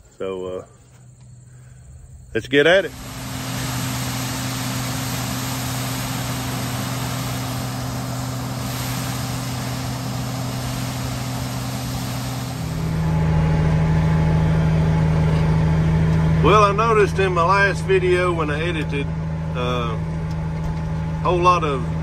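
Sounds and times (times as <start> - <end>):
diesel engine running: 2.8 - 22.0.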